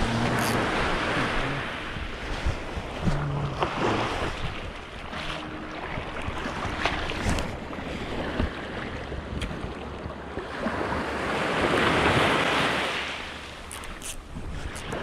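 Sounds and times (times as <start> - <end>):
wind on microphone: 0.0 - 12.8, 13.8 - 15.0
small waves washing onto beach: 0.0 - 15.0.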